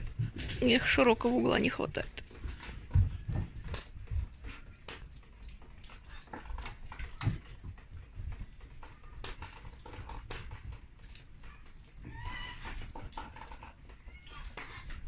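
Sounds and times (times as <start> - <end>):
paws clicking on wooden deck: 0.0 - 15.0.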